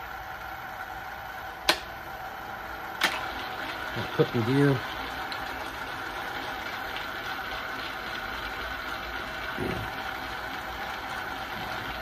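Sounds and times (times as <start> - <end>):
boring bar motor humming and whining: 0.0 - 12.0.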